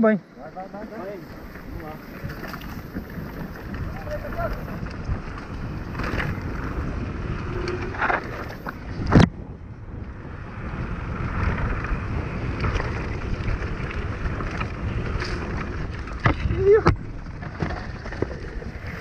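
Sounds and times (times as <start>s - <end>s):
bike tyres rolling over dirt: 0.3s - 19.0s
wind on microphone: 1.0s - 19.0s.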